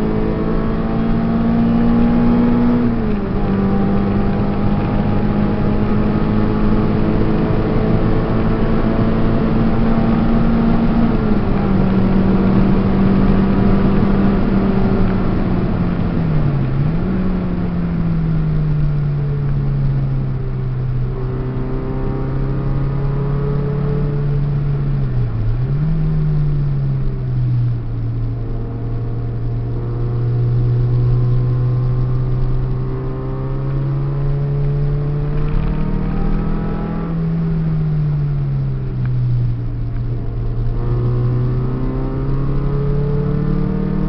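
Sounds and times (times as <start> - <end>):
car engine from inside cabin: 0.0 - 44.0
road noise: 0.0 - 44.0.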